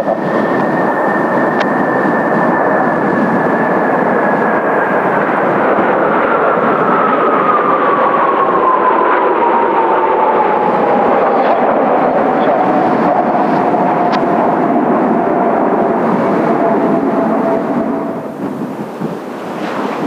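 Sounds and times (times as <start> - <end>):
jet engine whine: 0.0 - 20.0
jet engines rumbling: 0.0 - 20.0.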